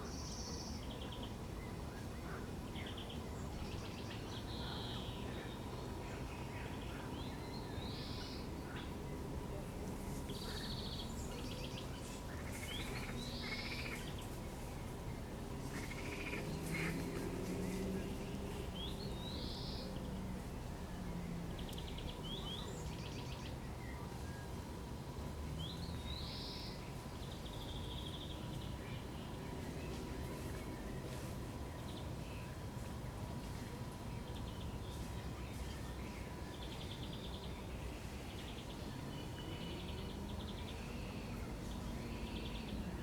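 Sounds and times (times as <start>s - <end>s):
songbird singing: 0.0s - 43.0s
steady low background noise: 0.0s - 43.0s.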